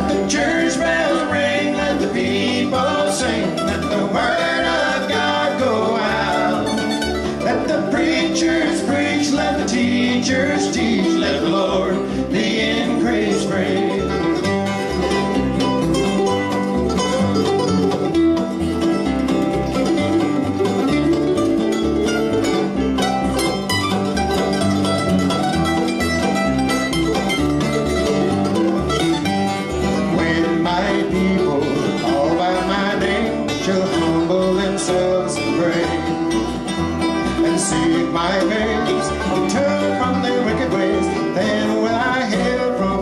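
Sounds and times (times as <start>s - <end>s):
bluegrass band playing: 0.0s - 43.0s.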